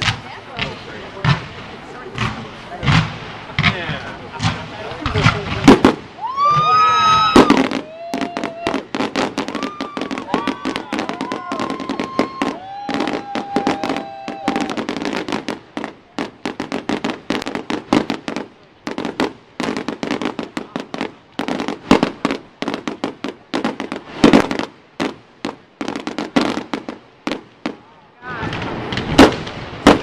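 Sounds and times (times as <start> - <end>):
fireworks cracking and popping: 0.0 - 30.0.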